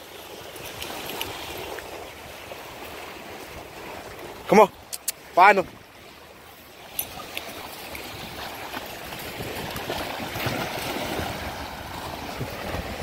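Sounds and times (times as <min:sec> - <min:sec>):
small waves washing on beach: 0:00.0 - 0:13.0.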